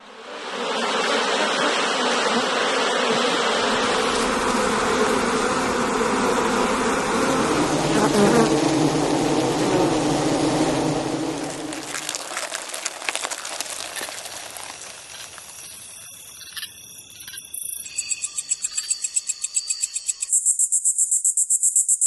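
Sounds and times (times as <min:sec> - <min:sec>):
insects buzzing drone: 0:00.0 - 0:22.0.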